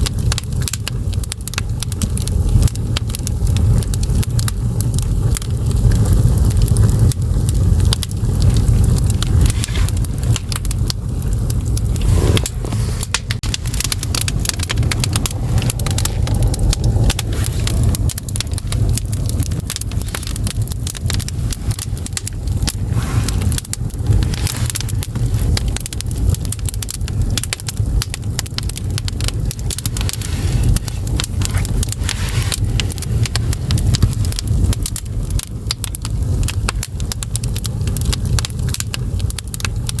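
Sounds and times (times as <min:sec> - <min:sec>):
firewood crackling and popping: 0:00.0 - 0:40.0
low roar of fire draft: 0:00.0 - 0:40.0.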